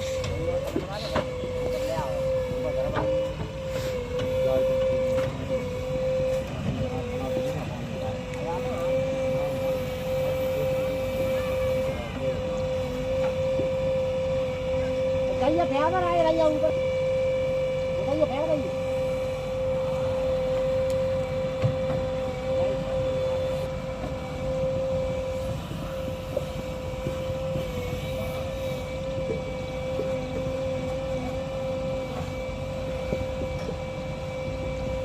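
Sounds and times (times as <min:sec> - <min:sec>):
backhoe diesel engine working: 0:00.0 - 0:35.0.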